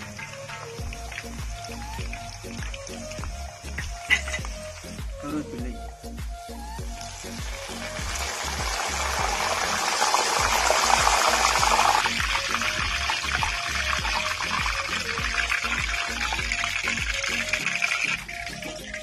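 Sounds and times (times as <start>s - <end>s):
background music: 0.0s - 19.0s
leaves deep-frying in hot oil: 0.0s - 19.0s.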